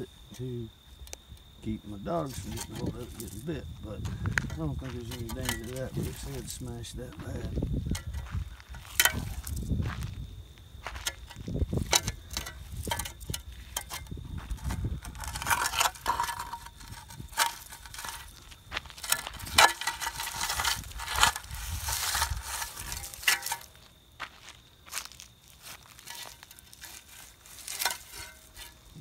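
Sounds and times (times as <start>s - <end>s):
shovel scraping on gravel: 2.1s - 3.5s, 4.6s - 9.7s, 10.8s - 29.0s.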